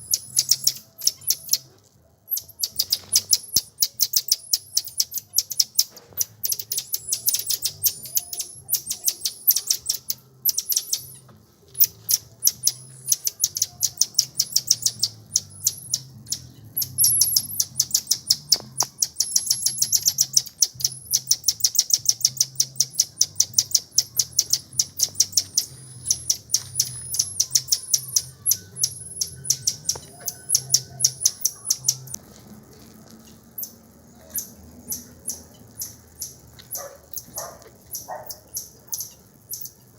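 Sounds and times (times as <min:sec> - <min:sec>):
birds chirping: 0:00.0 - 0:01.7, 0:02.3 - 0:32.2, 0:33.6 - 0:39.9.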